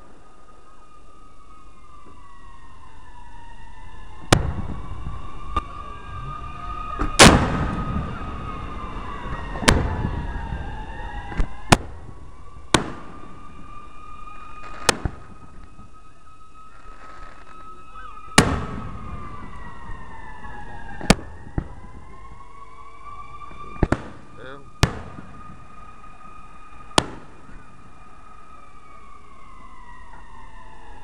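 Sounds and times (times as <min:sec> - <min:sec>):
sirens wailing: 0:00.0 - 0:31.0
firework bangs: 0:04.2 - 0:22.5, 0:23.5 - 0:31.0.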